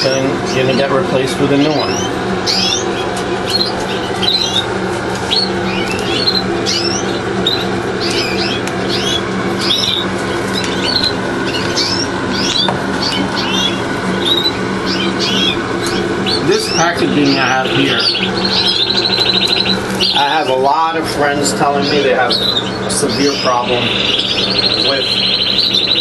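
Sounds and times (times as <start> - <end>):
canaries chirping: 0.0 - 26.0
steady low hum: 0.0 - 26.0.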